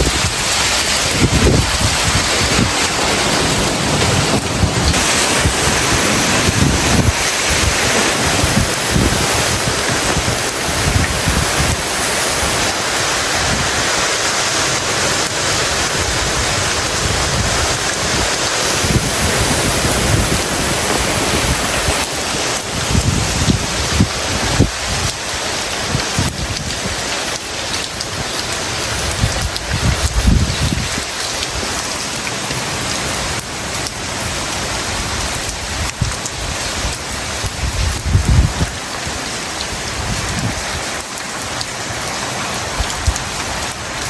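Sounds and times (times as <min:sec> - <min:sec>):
wind buffeting microphone: 0:00.0 - 0:27.2, 0:27.9 - 0:31.8, 0:34.3 - 0:41.0
heavy rain hissing: 0:00.0 - 0:44.0.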